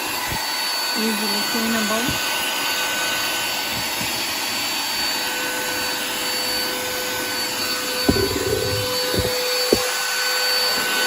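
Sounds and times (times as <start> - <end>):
handheld vacuum cleaner running: 0.0 - 11.0.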